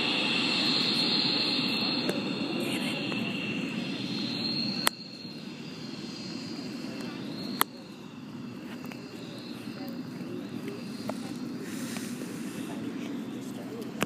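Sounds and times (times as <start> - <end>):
people talking outdoors: 0.0 - 14.0.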